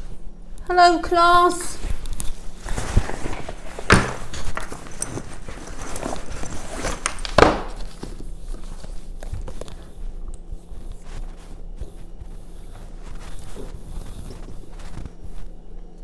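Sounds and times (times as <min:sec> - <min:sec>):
rummaging in fabric backpack: 0:01.8 - 0:16.0
handling paperback book: 0:01.9 - 0:16.0.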